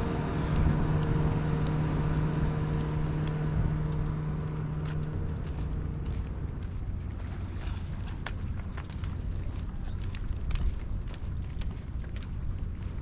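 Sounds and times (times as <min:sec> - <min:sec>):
engine running: 0:00.0 - 0:13.0
low outdoor rumble: 0:00.0 - 0:13.0.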